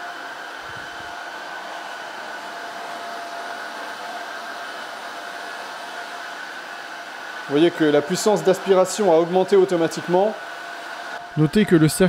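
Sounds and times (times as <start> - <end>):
wet-dry floor cleaner running: 0.0 - 12.0.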